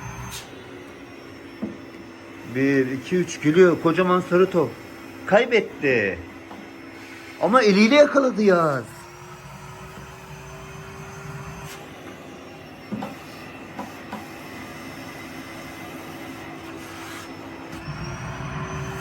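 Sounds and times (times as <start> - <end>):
toy vacuum motor whirring: 0.0 - 19.0.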